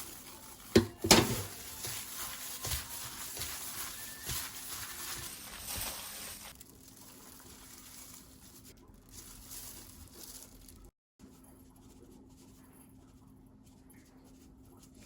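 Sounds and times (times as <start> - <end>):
soft rustling: 0.1 - 15.0.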